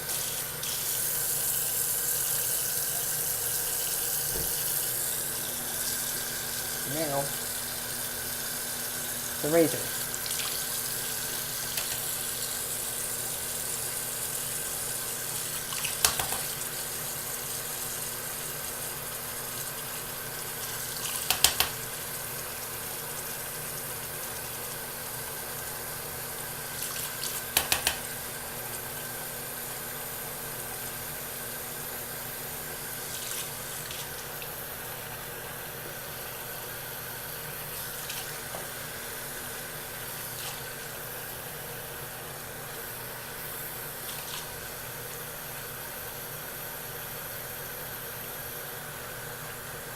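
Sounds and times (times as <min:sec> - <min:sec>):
sink tap running: 0:00.0 - 0:31.3, 0:32.1 - 0:46.2.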